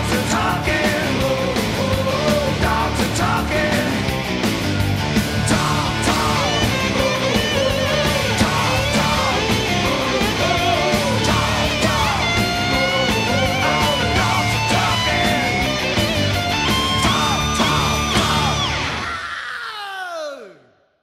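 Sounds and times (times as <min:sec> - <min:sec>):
hard rock song: 0:00.0 - 0:19.4.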